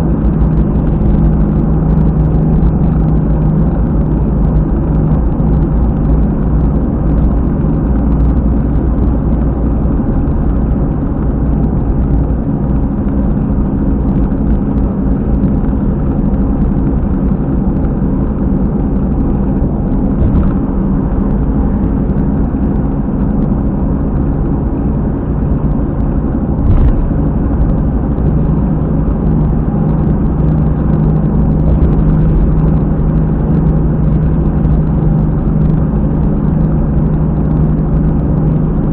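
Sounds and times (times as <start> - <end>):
low rumbling from rear wheel: 0.0 - 38.9.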